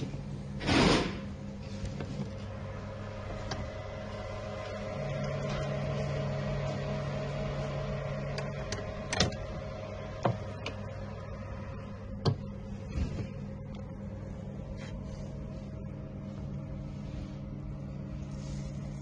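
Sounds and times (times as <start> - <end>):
fan humming: 0.0 - 19.0.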